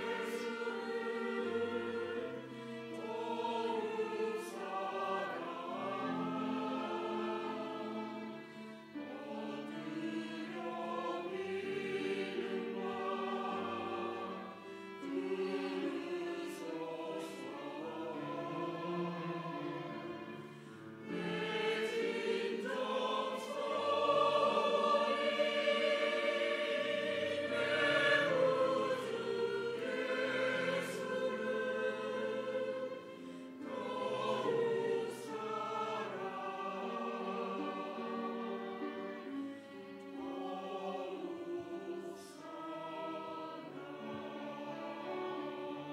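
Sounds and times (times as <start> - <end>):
choir singing a hymn: 0.0 - 45.9
violin accompaniment: 0.0 - 45.9.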